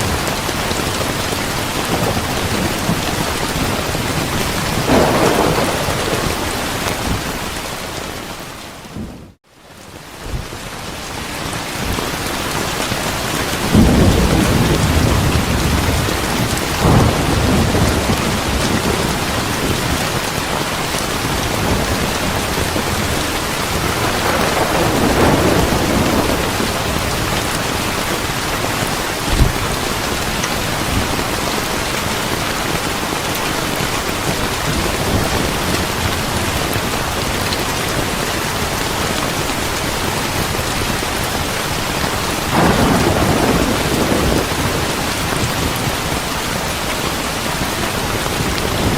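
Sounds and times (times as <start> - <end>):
heavy rain: 0.0 - 48.9
thunder rumbling: 0.1 - 9.4, 13.3 - 41.5, 42.2 - 48.9.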